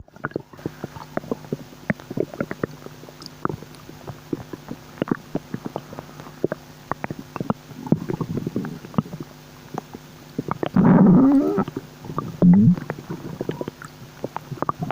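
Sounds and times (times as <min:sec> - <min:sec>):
stomach gurgling: 0:00.0 - 0:14.9.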